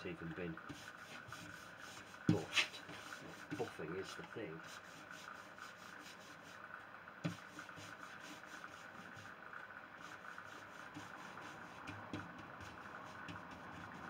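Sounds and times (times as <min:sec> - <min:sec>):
faint mechanical hum: 0:00.0 - 0:14.0.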